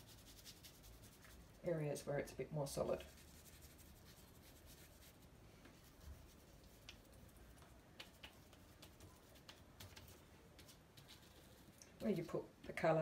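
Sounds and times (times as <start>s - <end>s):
paintbrush strokes on paper: 0.0s - 12.4s.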